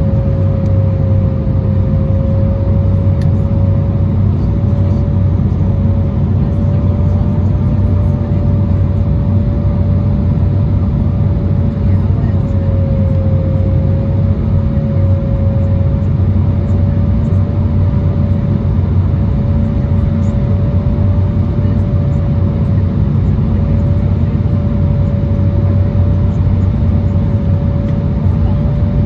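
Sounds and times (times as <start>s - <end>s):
jet engine and airflow rumble: 0.0s - 29.0s.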